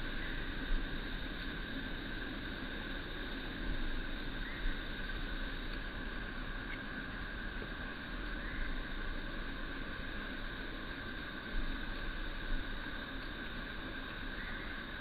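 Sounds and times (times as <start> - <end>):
constant hiss: 0.0 - 15.0
insect chorus drone: 0.0 - 15.0.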